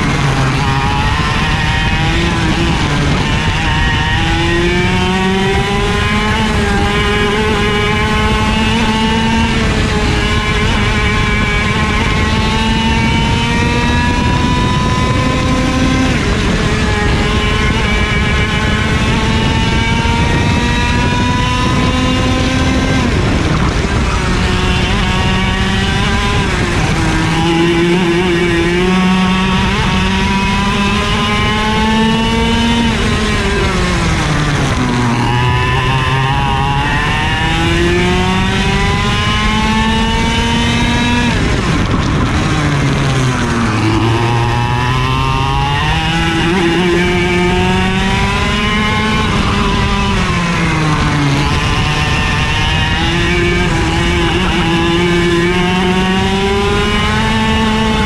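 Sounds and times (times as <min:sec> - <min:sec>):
kart engine accelerating: 0:00.0 - 0:58.0.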